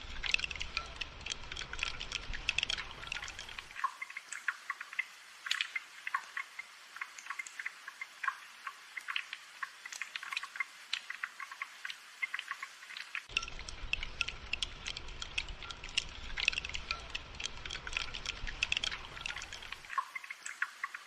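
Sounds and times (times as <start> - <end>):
rain dripping and pattering: 0.0 - 21.0.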